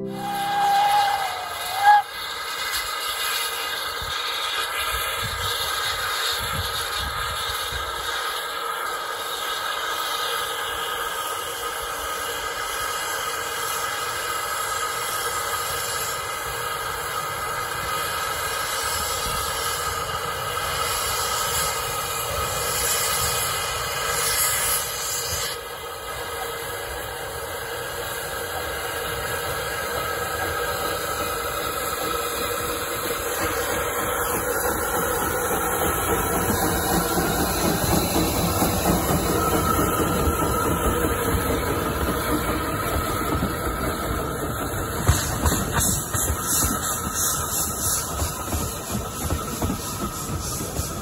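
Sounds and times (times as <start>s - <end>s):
loud hiss of steam: 0.0s - 51.0s
steam locomotive starting: 0.0s - 51.0s.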